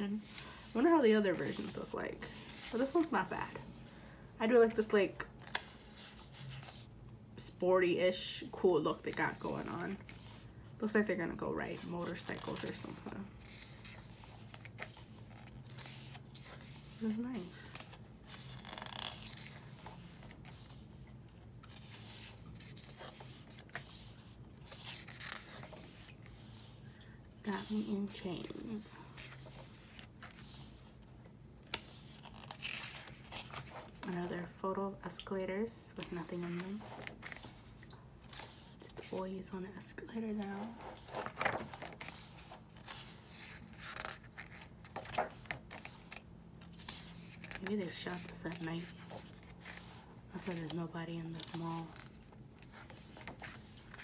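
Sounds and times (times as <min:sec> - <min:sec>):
book pages turning: 0:00.0 - 0:03.9, 0:04.6 - 0:07.0, 0:08.1 - 0:34.6, 0:35.9 - 0:54.0.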